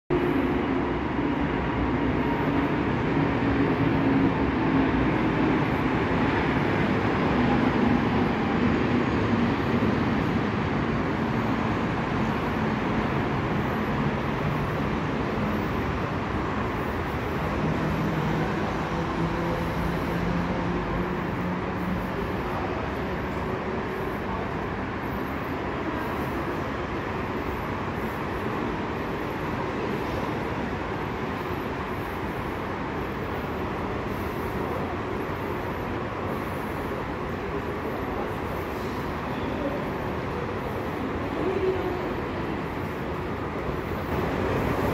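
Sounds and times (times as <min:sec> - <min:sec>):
electric train rumbling: 0:00.1 - 0:44.9.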